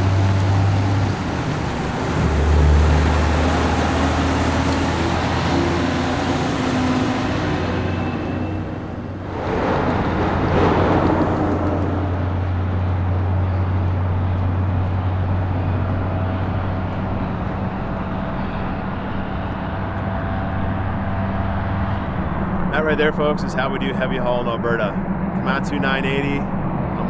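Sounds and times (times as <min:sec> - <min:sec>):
truck diesel engines droning: 0:00.0 - 0:27.0
tyre and road noise: 0:00.0 - 0:27.0.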